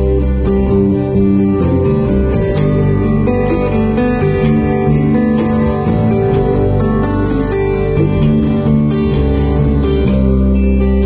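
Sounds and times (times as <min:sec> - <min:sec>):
acoustic guitar: 0:00.0 - 0:11.0
electric bass guitar: 0:00.0 - 0:11.0
light even beat: 0:00.1 - 0:10.7.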